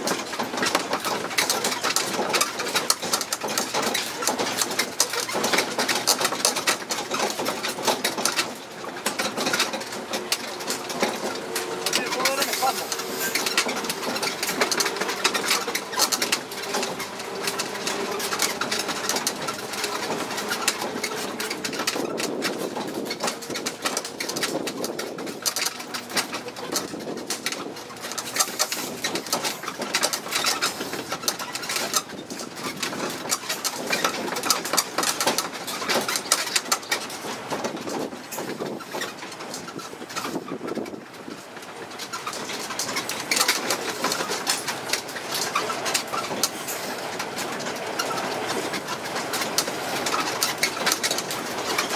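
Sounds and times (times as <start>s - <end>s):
carriage rattling: 0.0s - 51.9s
road train moving: 0.0s - 51.9s.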